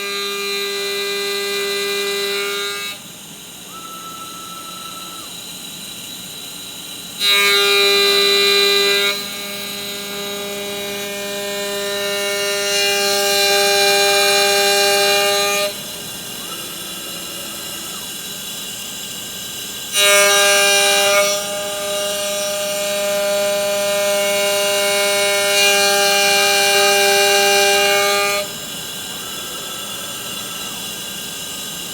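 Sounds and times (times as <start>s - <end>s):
cutter skimming workpiece: 0.0s - 31.9s
machine spindle whining: 0.0s - 31.9s.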